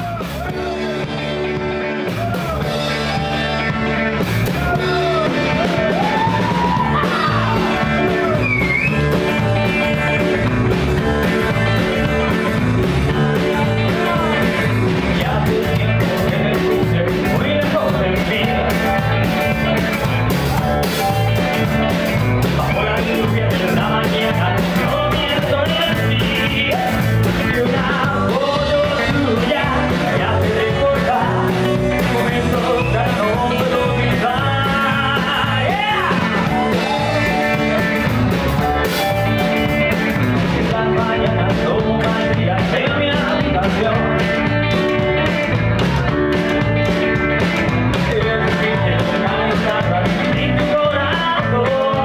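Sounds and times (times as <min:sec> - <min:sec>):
drums: 0:00.0 - 0:52.0
electric guitar: 0:00.0 - 0:52.0
keyboard: 0:00.0 - 0:52.0
man singing lead vocal: 0:04.4 - 0:52.0.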